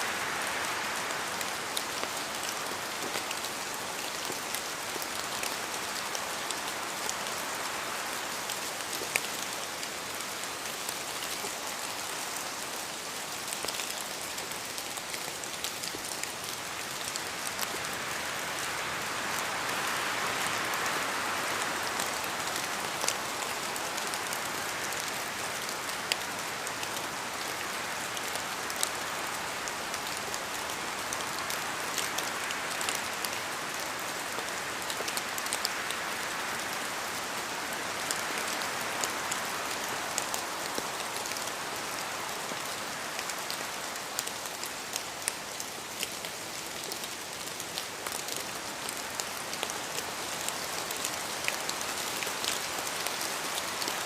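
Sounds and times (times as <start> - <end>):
rain on hard surface: 0.0 - 54.0.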